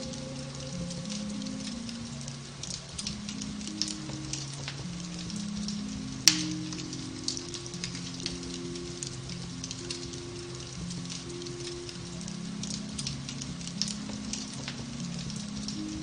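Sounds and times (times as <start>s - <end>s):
fire crackling in fireplace: 0.0s - 16.0s
fire snap: 0.0s - 16.0s
soft piano relaxation music: 0.0s - 16.0s.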